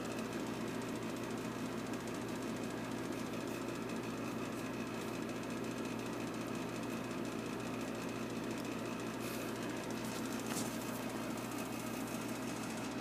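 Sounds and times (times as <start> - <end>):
motor-driven machine humming and rattling: 0.0 - 13.0.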